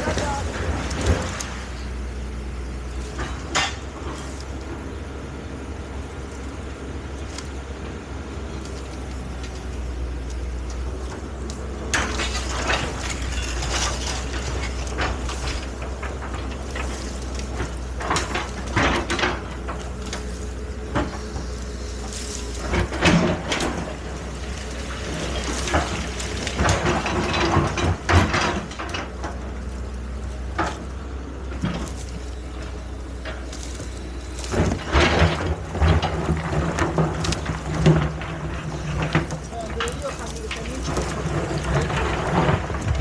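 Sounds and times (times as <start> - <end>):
digging gear clanking and scraping: 0.0 - 43.0
excavator engine running: 0.0 - 43.0.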